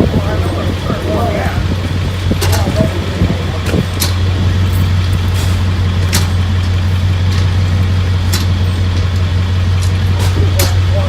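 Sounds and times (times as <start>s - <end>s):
car being dragged: 0.0s - 11.0s
vehicle engine running: 0.0s - 11.0s.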